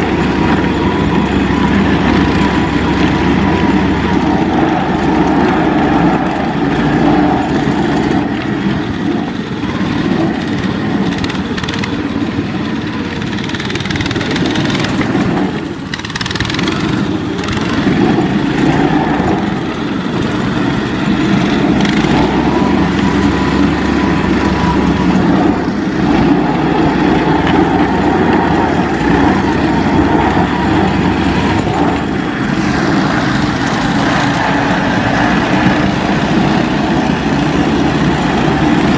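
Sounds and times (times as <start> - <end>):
small snowmobile engine running: 0.0 - 38.9.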